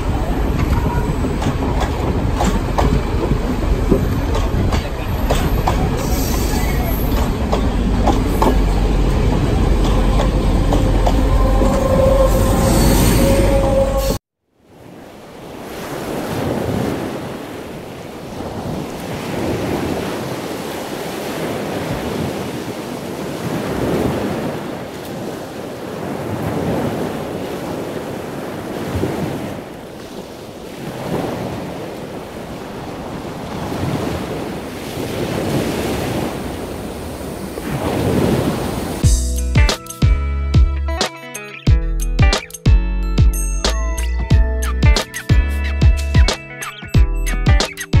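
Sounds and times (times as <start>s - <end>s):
sea waves washing ashore: 0.0s - 39.1s.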